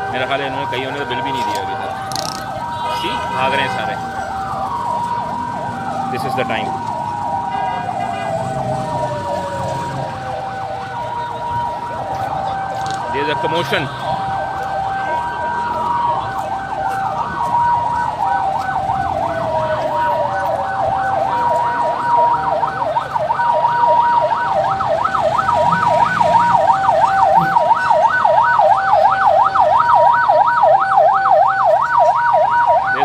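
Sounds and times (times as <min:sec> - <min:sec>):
two-tone hi-lo siren: 0:00.0 - 0:33.0
yelping siren: 0:00.0 - 0:33.0
siren winding down: 0:00.2 - 0:33.0.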